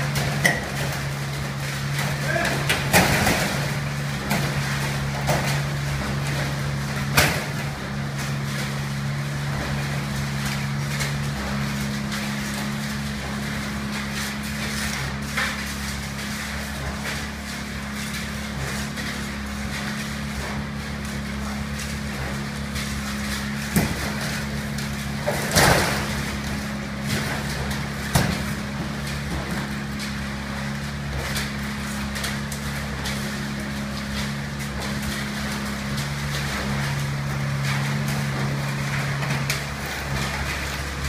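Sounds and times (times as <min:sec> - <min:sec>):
concrete pump engine hum: 0:00.0 - 0:41.0.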